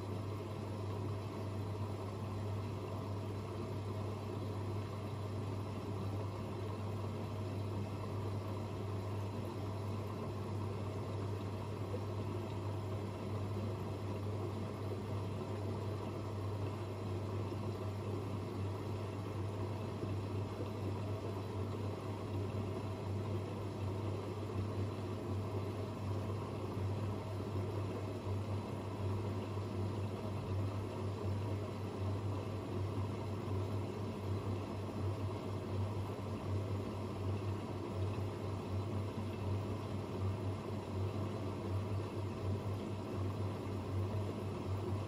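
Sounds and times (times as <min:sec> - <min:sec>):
washing machines humming: 0:00.0 - 0:45.0.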